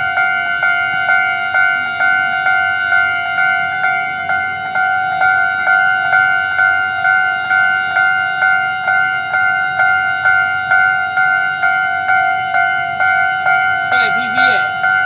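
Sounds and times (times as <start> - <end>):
level crossing bell dinging: 0.0 - 15.0.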